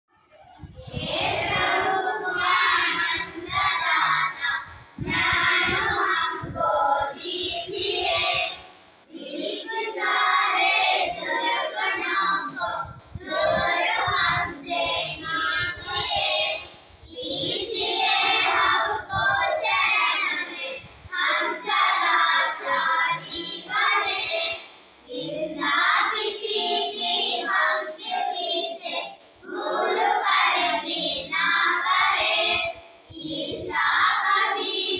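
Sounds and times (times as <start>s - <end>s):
children singing in unison: 0.7s - 34.9s.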